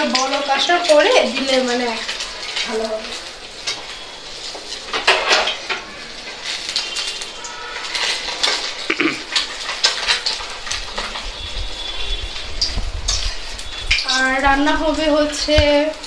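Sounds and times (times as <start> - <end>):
pots and utensils clattering: 0.0 - 16.0.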